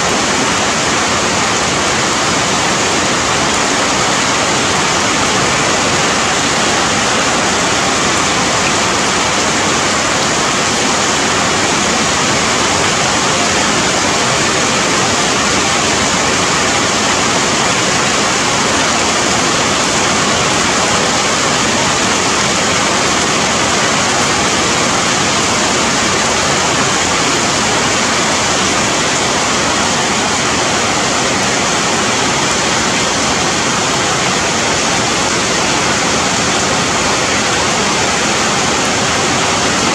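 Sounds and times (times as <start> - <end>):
rain falling on forest leaves: 0.0 - 39.9.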